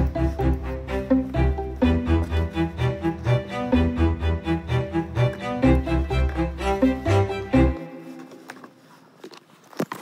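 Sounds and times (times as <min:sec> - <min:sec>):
short repeated melodic notes: 0:00.0 - 0:08.4.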